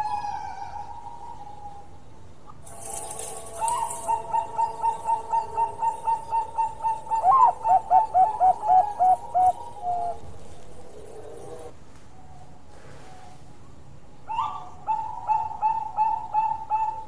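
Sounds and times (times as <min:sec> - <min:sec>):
dove cooing: 0:00.0 - 0:13.5, 0:14.3 - 0:17.0.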